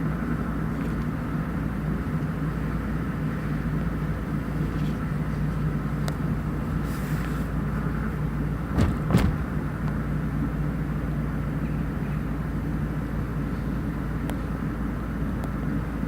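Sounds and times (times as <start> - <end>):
vehicle running rumble: 0.0 - 16.0.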